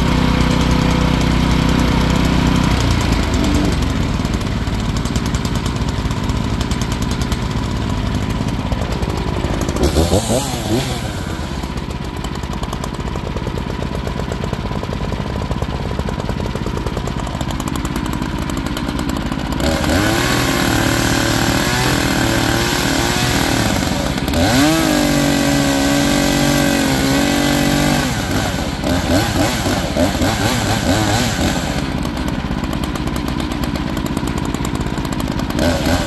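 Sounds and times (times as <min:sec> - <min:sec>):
band sawmill engine running: 0:00.0 - 0:36.0
saw whine under load: 0:00.0 - 0:36.0.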